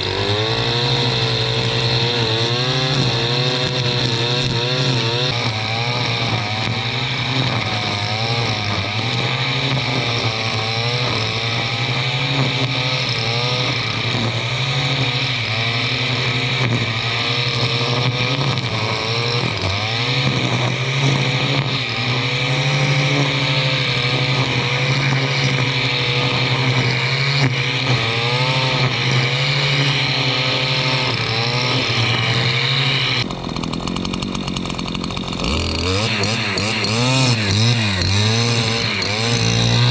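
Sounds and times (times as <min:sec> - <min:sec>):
brushcutter cutting vegetation: 0:00.0 - 0:39.9.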